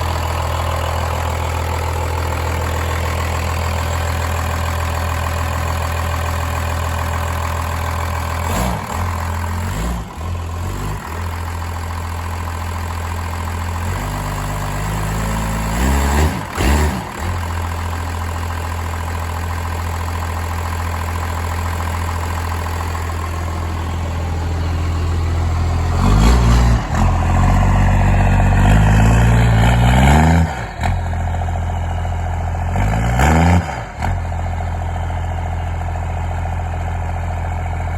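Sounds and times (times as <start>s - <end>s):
diesel engine idling and revving: 0.0s - 37.9s.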